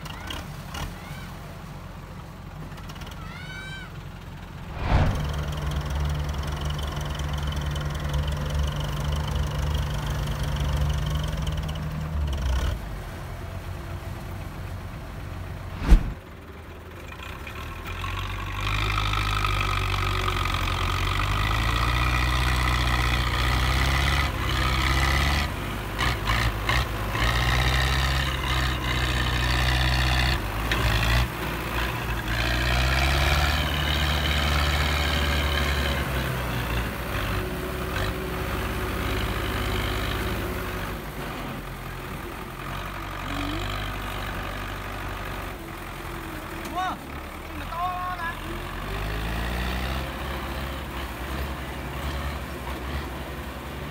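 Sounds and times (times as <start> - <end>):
tractor engines running under load: 0.0 - 53.9.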